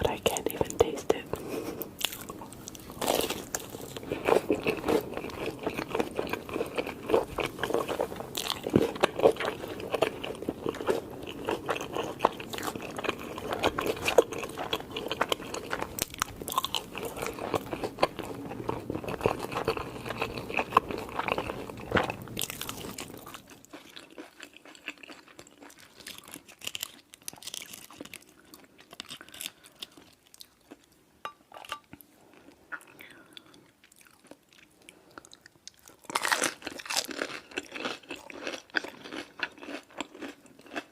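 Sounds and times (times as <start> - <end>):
crunching and chewing food: 0.0 - 40.9.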